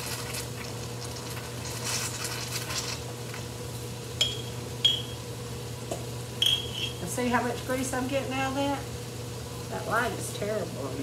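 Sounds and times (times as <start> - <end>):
beef sizzling in a wok: 0.0 - 11.0.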